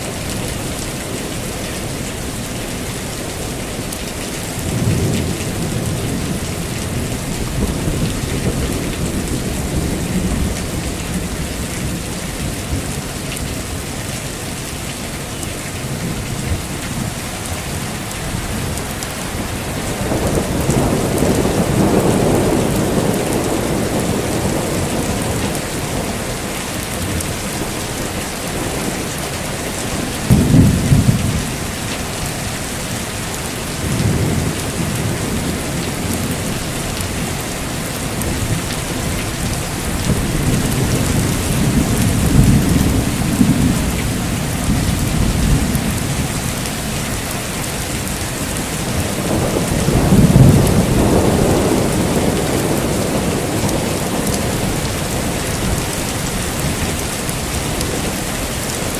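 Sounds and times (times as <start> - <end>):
heavy rain falling: 0.0 - 58.9
rolling thunder: 4.5 - 13.6, 15.8 - 32.5, 33.7 - 47.0, 47.7 - 58.3.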